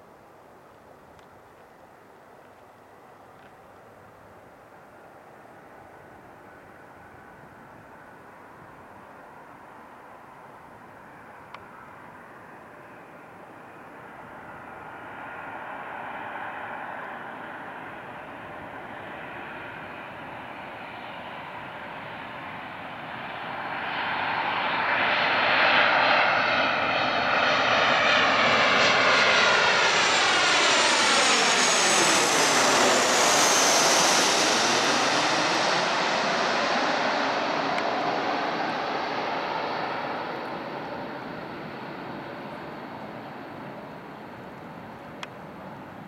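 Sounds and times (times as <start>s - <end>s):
high jet engine whine: 0.0s - 46.0s
jet airliner flying low past: 3.9s - 46.0s.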